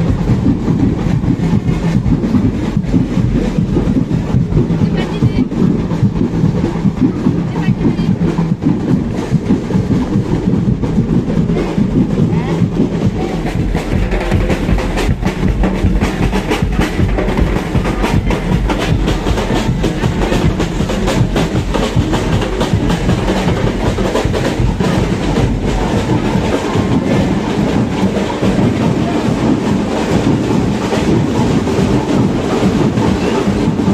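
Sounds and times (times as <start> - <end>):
percussion band drumming: 0.0 - 33.9
sharp knocking beats: 0.0 - 33.9
steady bass drum: 0.0 - 33.9.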